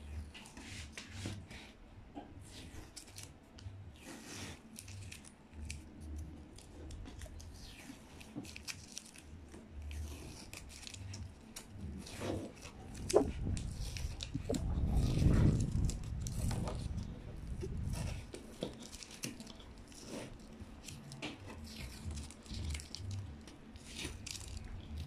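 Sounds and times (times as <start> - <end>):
masking tape peeling off: 2.4 - 25.0.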